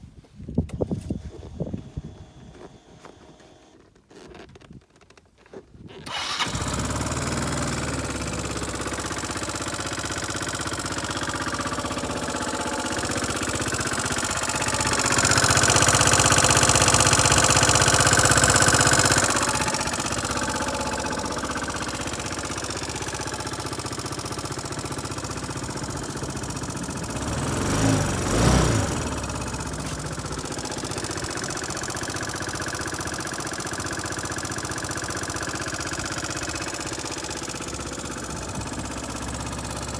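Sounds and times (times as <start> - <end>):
scooter engine starting and idling: 0.6 - 5.2, 5.8 - 39.9
scooter engine revving: 0.7 - 3.8, 6.0 - 39.9.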